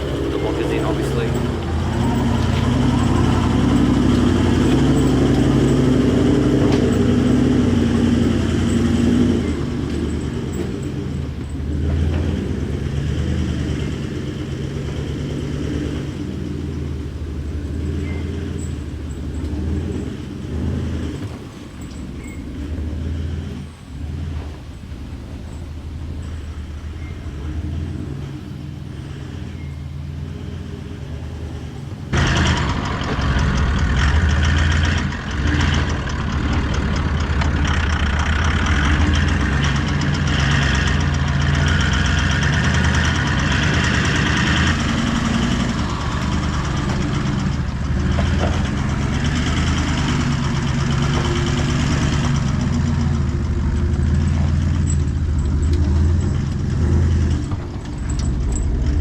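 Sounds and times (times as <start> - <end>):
four-wheel-drive engine pulling hard: 0.0 - 59.0.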